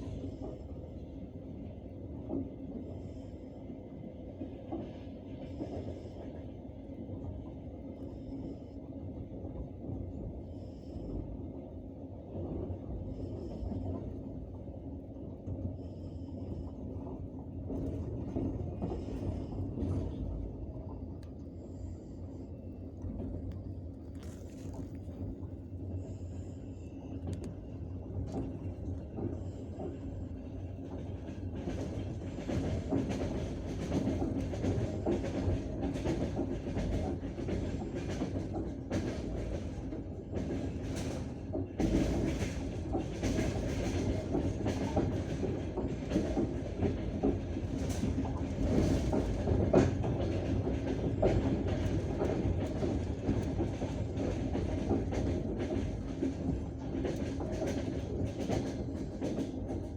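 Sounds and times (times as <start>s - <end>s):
train carriage rumble: 0.0s - 59.9s.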